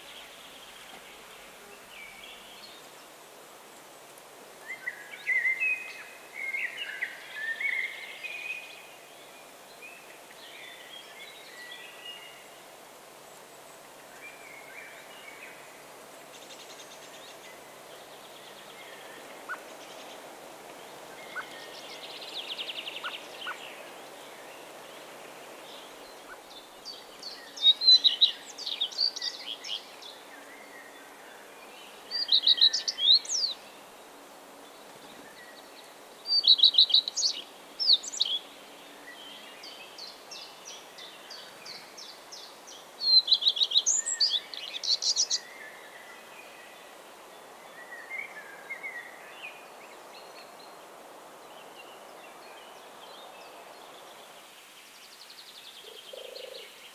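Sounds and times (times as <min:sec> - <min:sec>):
songbird singing: 0:00.0 - 0:03.2, 0:04.6 - 0:12.7, 0:13.3 - 0:56.9.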